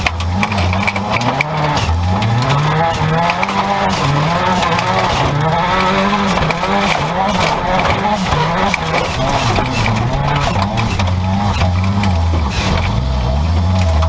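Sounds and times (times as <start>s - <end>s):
race car engine revving: 0.0s - 14.0s
tyre and dirt noise: 0.0s - 14.0s.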